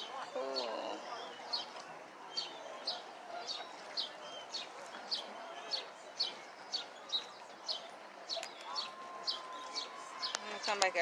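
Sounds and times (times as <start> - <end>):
murmur of distant voices: 0.0 - 11.0.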